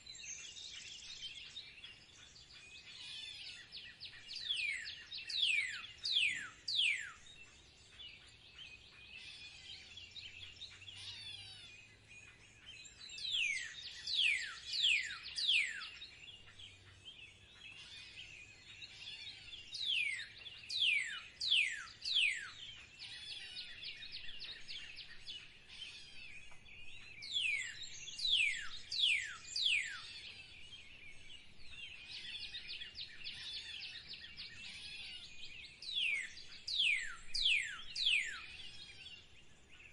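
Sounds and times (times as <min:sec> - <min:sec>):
bird chattering and twittering: 0:00.0 - 0:39.9
songbird whistling song: 0:00.0 - 0:39.9.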